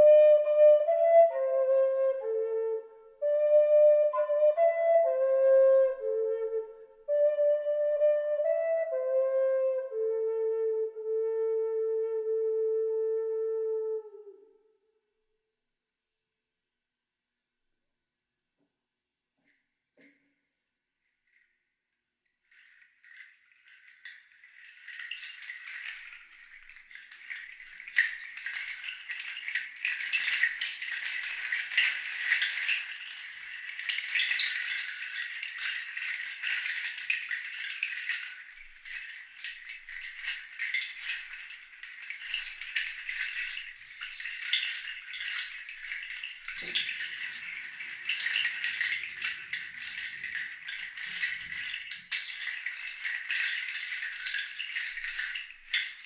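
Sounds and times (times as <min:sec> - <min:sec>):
shaker rattling: 0:00.0 - 0:12.2, 0:21.1 - 0:56.0.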